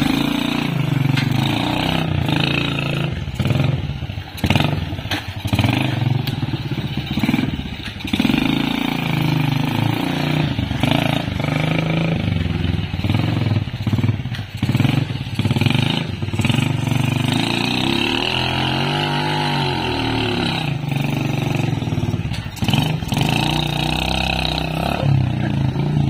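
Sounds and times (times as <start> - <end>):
small motorcycle engine under load: 0.0 - 26.0.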